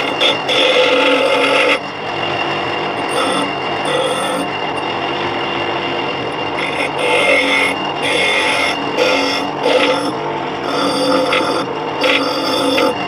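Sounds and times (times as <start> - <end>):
nail grinding on wheel: 0.0 - 1.9, 2.9 - 5.0, 6.2 - 13.0
bench grinder humming: 0.0 - 13.0.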